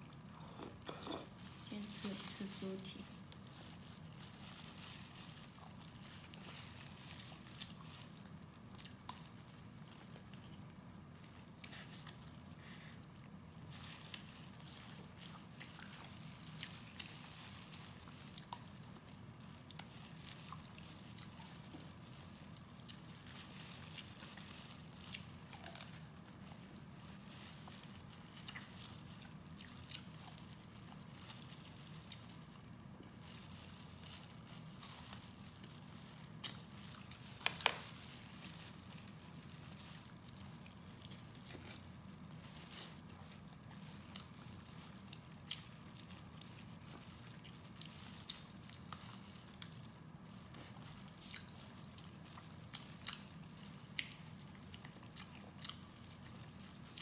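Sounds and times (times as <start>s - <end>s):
person chewing: 0.0s - 1.5s, 3.2s - 57.0s
low steady hum: 0.0s - 57.0s.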